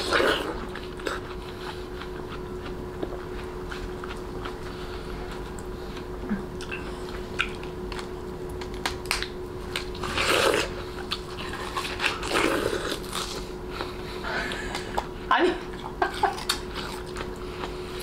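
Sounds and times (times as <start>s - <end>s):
dog chewing watermelon: 0.0s - 8.1s, 9.8s - 14.0s, 15.7s - 18.0s
faint steady hum: 0.0s - 18.0s.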